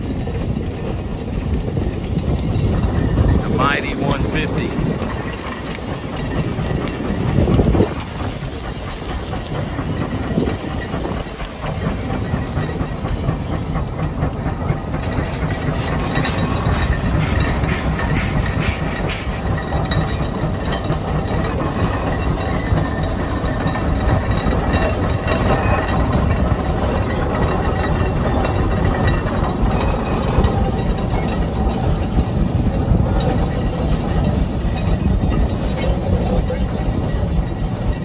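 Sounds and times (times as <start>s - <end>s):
steam engine mechanical clatter: 0.0s - 38.0s
steam hissing: 0.0s - 38.0s.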